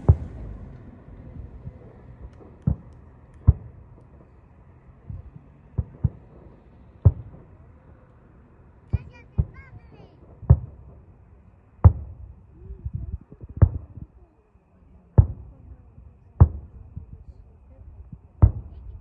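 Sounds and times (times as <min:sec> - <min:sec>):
fireworks booming: 0:00.0 - 0:08.1, 0:08.7 - 0:14.2, 0:15.1 - 0:19.0.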